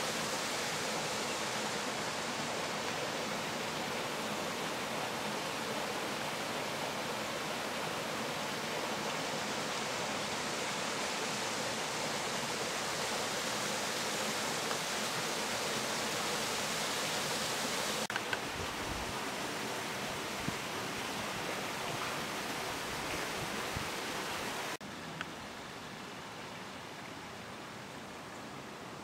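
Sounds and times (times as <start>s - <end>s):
waterfall rushing: 0.0s - 24.8s.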